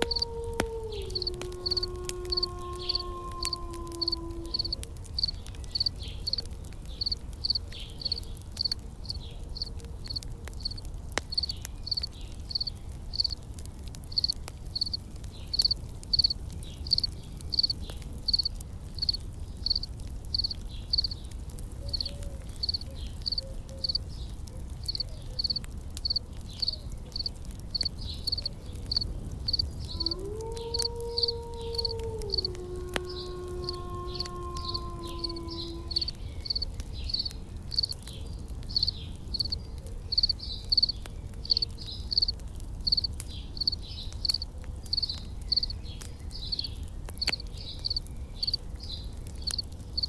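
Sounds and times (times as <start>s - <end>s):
faint campfire crackles: 0.0s - 50.0s
insect chirping: 1.1s - 6.4s, 7.0s - 13.4s, 14.1s - 15.0s, 15.6s - 21.2s, 21.9s - 24.0s, 24.9s - 30.2s, 30.8s - 38.0s, 38.7s - 45.7s, 46.5s - 48.6s, 49.5s - 50.0s.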